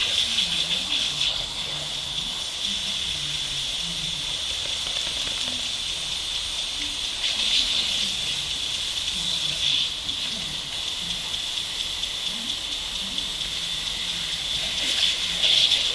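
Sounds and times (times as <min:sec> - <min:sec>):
sprinkler spraying hiss: 0:00.0 - 0:15.9.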